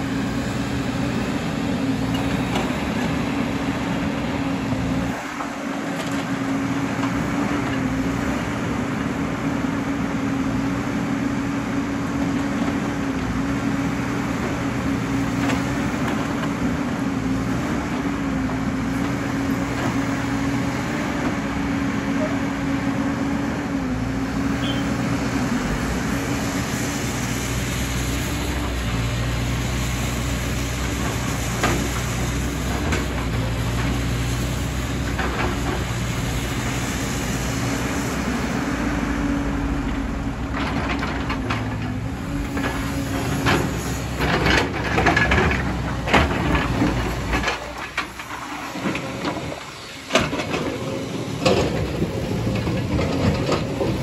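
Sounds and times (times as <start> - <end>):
dump truck engine driving away: 0.0 - 54.0
excavator diesel engine: 0.0 - 54.0.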